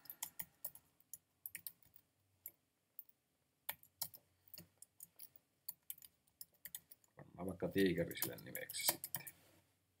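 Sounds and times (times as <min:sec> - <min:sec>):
typing on computer keyboard: 0:00.0 - 0:07.2, 0:08.0 - 0:09.4.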